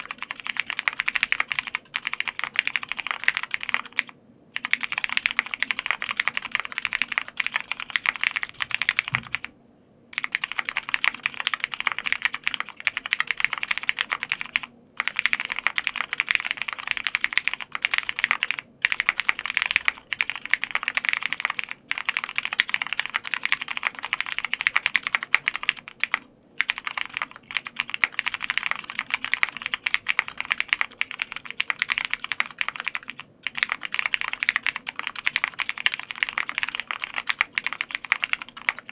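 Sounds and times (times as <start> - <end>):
fast mechanical keyboard typing: 0.0 - 9.5, 10.2 - 38.9.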